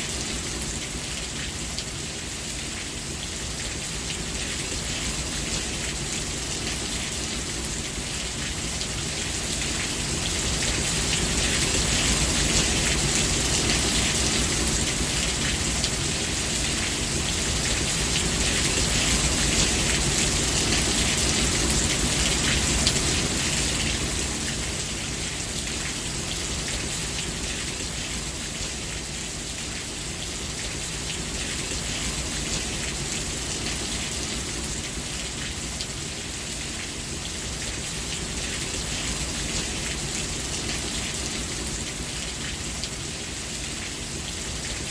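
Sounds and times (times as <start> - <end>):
rain pattering on surfaces: 0.0 - 44.9.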